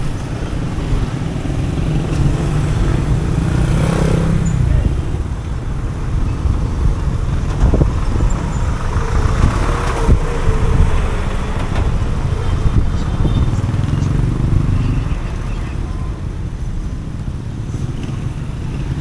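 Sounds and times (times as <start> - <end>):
traffic passing: 0.0 - 19.0.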